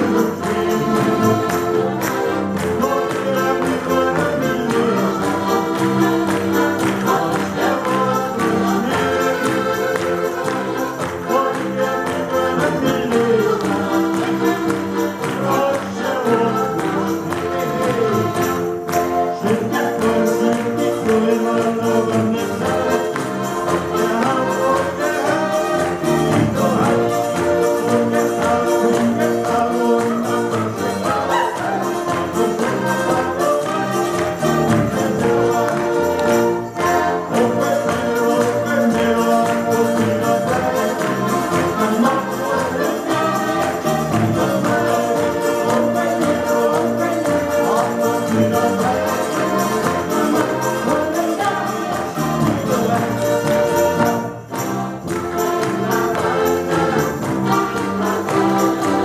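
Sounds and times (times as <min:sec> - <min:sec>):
button accordions playing lively tune: 0:00.0 - 0:59.0.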